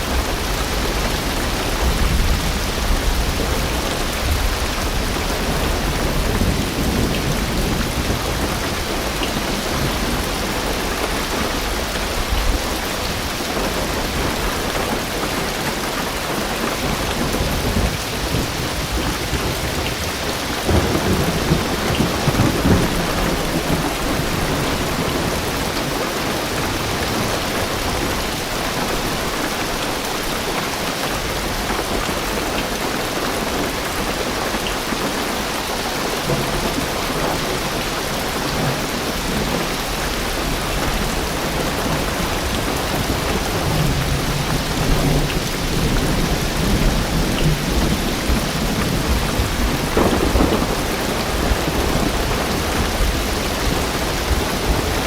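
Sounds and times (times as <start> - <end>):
low rumble of thunder: 0.0 - 29.6, 36.1 - 55.0
heavy rain on car roof: 0.0 - 55.0.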